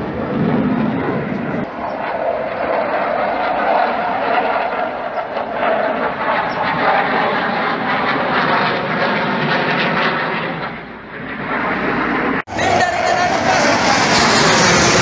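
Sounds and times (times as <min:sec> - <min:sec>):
jet aircraft flying overhead: 0:00.0 - 0:15.0.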